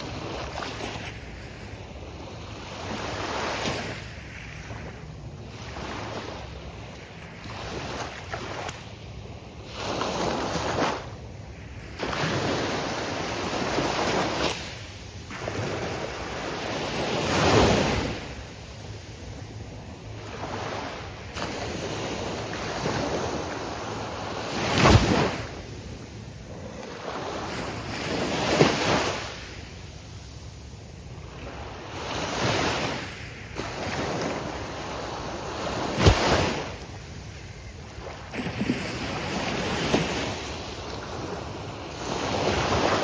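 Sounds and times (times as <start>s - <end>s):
waves crashing on beach: 0.0s - 8.9s, 9.6s - 43.0s.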